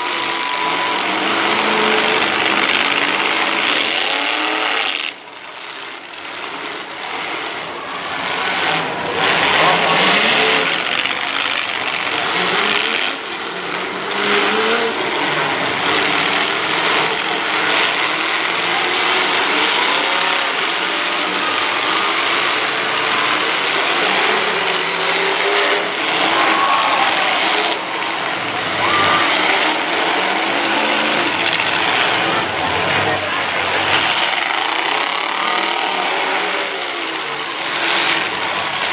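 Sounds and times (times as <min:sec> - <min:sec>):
car engines revving: 0:00.0 - 0:38.9
cars crashing: 0:00.0 - 0:38.9.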